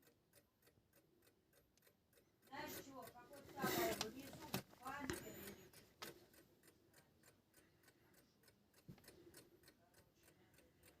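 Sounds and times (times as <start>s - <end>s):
faint even ticking: 0.0s - 11.0s.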